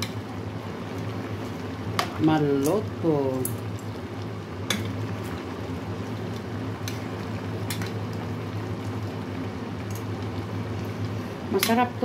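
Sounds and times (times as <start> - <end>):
sauce simmering and bubbling: 0.1 - 2.2, 3.5 - 11.5.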